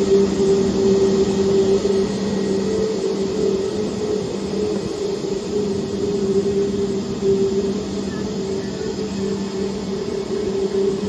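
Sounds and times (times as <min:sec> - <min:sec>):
jet engines humming: 0:00.0 - 0:11.0.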